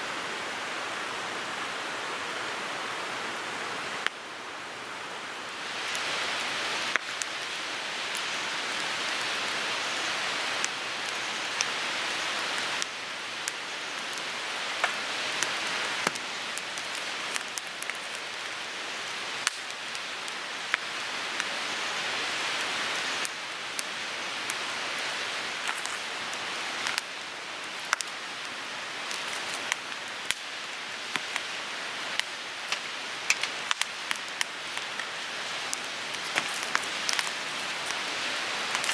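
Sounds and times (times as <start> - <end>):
wood fire hissing: 0.0 - 38.9
burning wood crackling and popping: 5.2 - 38.9.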